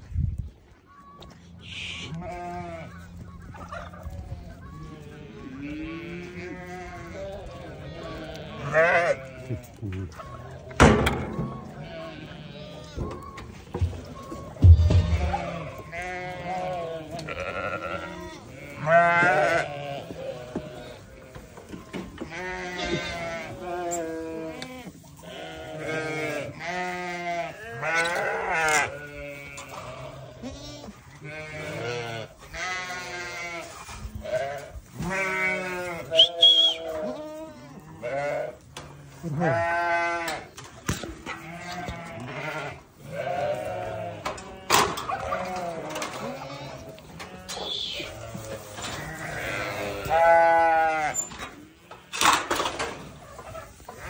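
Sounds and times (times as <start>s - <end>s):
sheep bleating: 1.6s - 3.2s, 4.4s - 10.5s, 11.4s - 13.3s, 14.3s - 21.6s, 22.2s - 40.5s, 41.3s - 52.3s.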